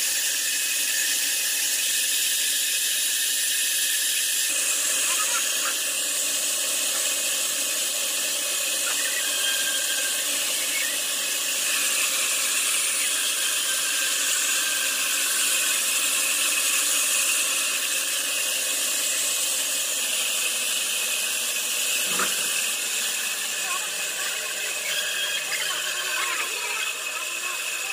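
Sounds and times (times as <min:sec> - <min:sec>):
band saw whining: 0:00.0 - 0:27.9.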